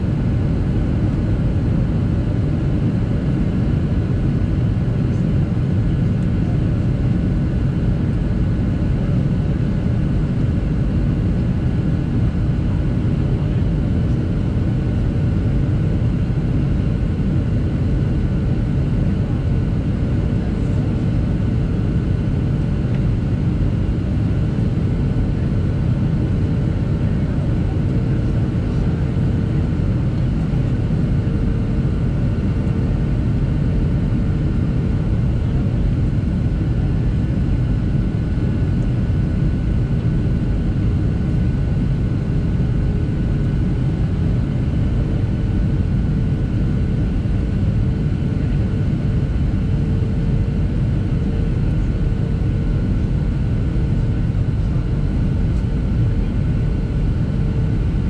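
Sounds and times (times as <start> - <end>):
airplane cabin low rumble: 0.0 - 58.0.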